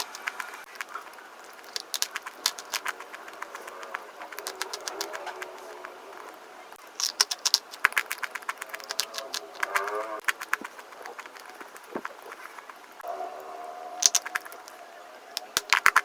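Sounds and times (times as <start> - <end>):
rapid crunching clicks: 0.0 - 13.2, 14.0 - 16.0.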